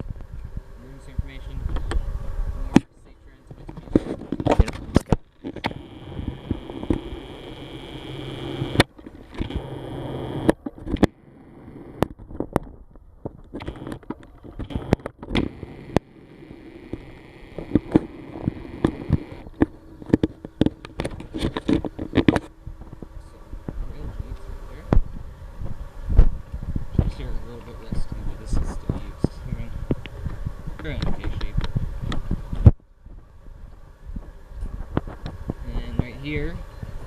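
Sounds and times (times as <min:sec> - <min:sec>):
vehicle engine humming: 0:00.0 - 0:32.5.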